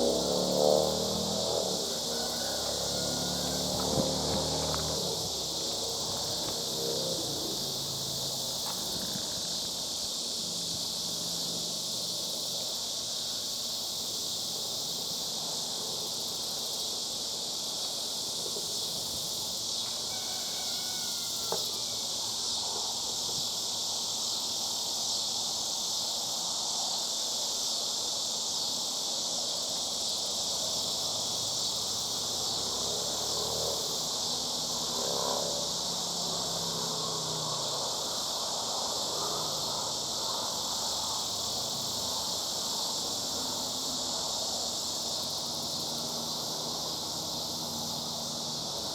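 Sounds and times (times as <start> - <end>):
cicadas chorus: 0.0 - 48.9.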